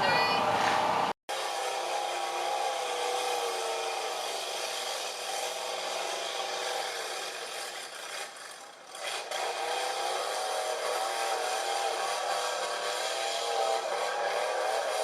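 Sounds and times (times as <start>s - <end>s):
truck engine revving: 0.8s - 15.0s.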